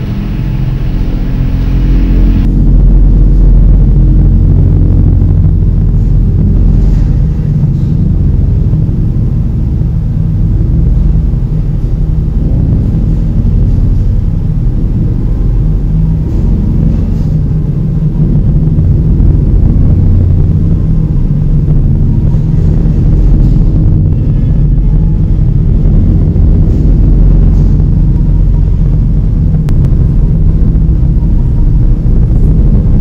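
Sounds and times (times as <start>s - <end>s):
loud deep rumble: 0.0s - 33.0s.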